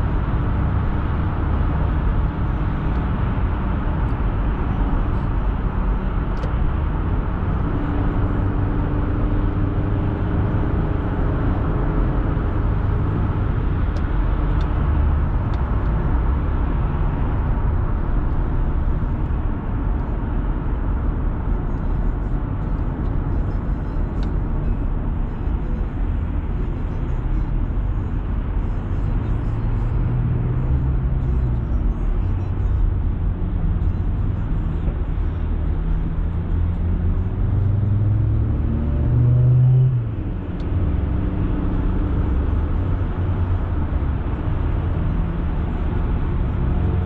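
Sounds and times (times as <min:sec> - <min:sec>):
low engine hum: 0:00.0 - 0:47.0
road and tyre noise: 0:00.0 - 0:47.0.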